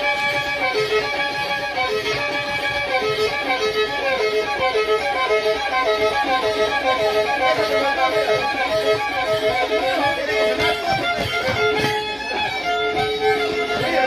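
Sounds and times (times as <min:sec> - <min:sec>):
fast violin tune: 0:00.0 - 0:14.0.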